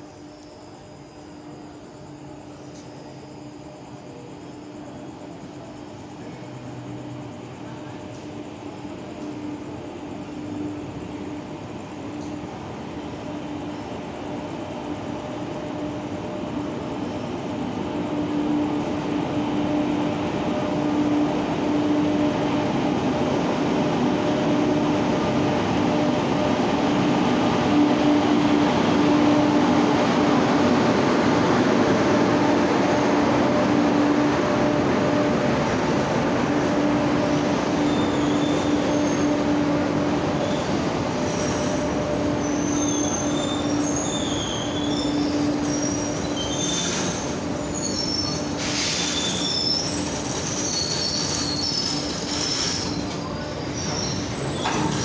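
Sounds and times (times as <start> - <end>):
electric locomotive hum: 0.0 - 55.0
rumble of rolling train: 0.0 - 55.0.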